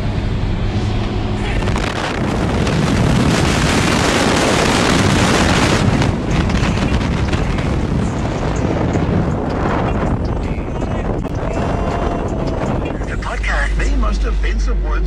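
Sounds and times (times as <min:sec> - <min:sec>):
wind buffeting microphone: 0:00.0 - 0:14.3
truck engine and road noise: 0:00.0 - 0:15.0.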